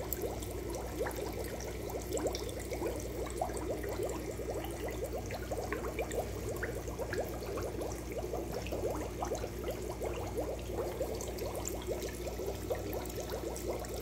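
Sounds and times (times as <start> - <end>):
filter pump hum: 0.0 - 14.0
water splashing and bubbling: 0.0 - 14.0.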